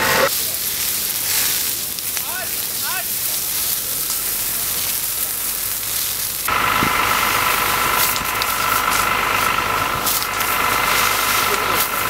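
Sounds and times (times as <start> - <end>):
burning brush crackling: 0.0 - 12.0
engine drone with high whine: 0.0 - 12.0
scattered clicks: 0.3 - 12.0.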